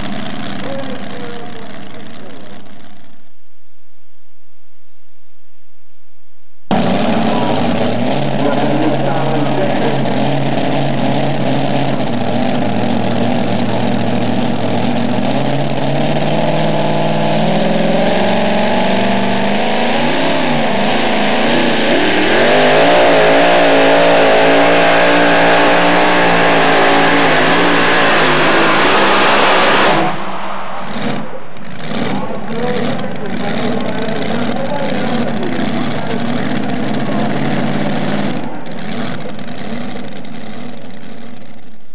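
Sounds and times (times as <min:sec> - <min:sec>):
truck engine under load: 0:00.0 - 0:03.3, 0:06.7 - 0:41.9.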